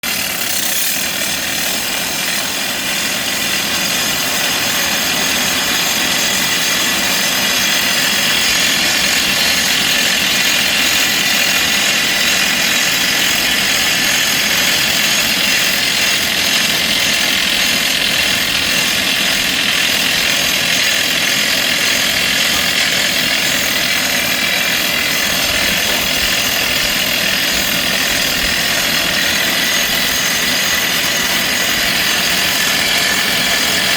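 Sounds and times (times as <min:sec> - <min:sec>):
heavy machinery engine whining: 0:00.1 - 0:33.9.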